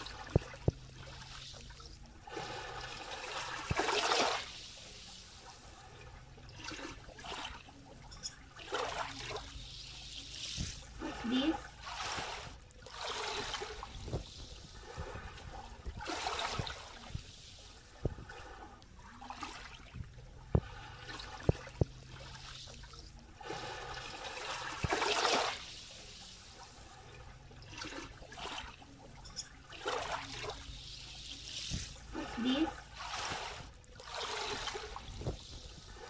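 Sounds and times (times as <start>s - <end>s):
small waves lapping on shore: 0.0s - 36.0s.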